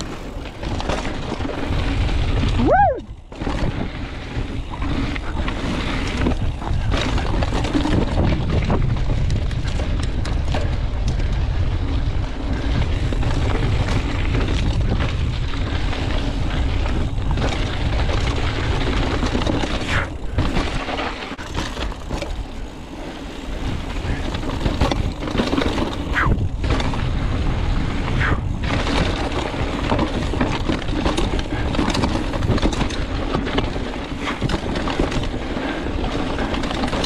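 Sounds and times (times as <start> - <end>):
bike knocking and rattling: 0.0 - 37.0
bike tyres on dirt trail: 0.0 - 37.0
wind on microphone: 1.4 - 20.7, 26.0 - 37.0.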